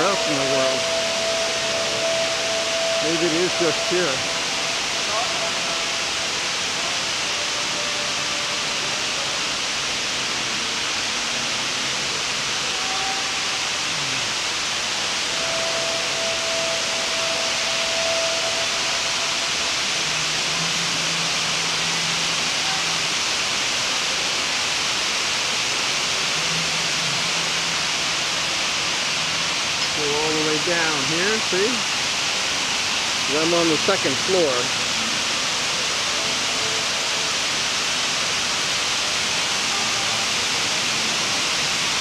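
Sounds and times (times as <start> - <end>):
waterfall cascading into pool: 0.0 - 42.0.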